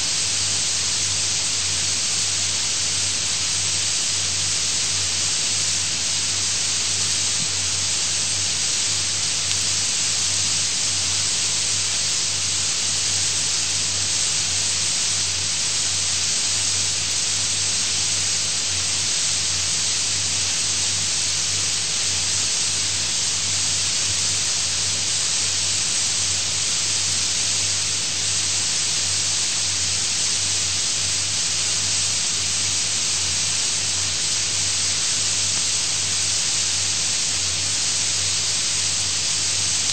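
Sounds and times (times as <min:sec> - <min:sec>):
recording hiss: 0:00.0 - 0:39.9.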